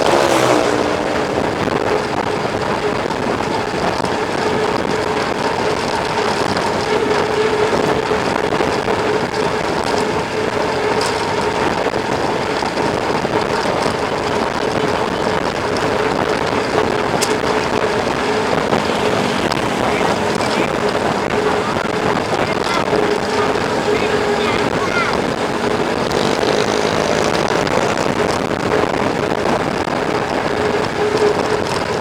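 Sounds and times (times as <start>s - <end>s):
bike tyres rolling: 0.0s - 32.0s
wind rushing over microphone: 0.0s - 32.0s.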